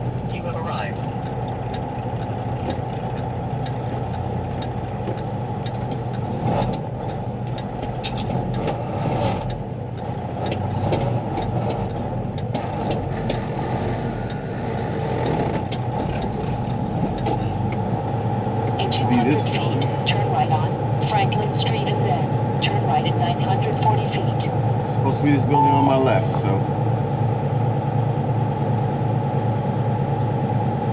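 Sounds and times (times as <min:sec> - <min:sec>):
diesel truck engine rumble: 0:00.0 - 0:30.9.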